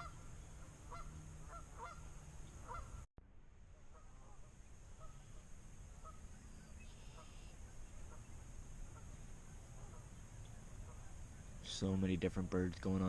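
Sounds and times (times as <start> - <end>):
distant geese honking: 0.0 - 3.1, 3.7 - 11.7.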